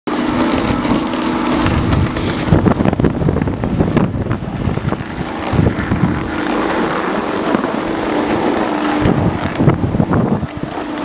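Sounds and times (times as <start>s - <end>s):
skis scraping over snow: 0.1s - 11.0s
steady low hum: 0.1s - 11.0s
wind on microphone: 0.1s - 11.0s.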